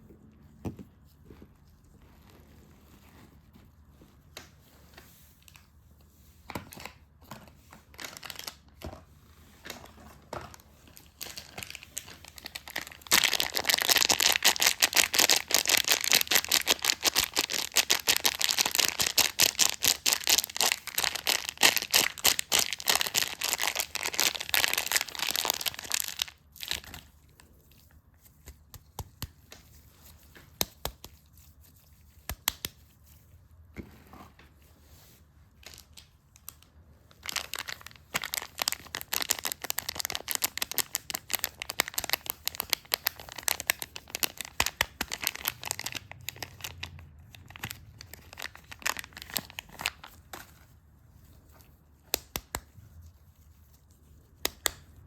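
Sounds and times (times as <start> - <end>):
wrapping crinkling and tearing: 6.5 - 33.2, 35.5 - 55.0.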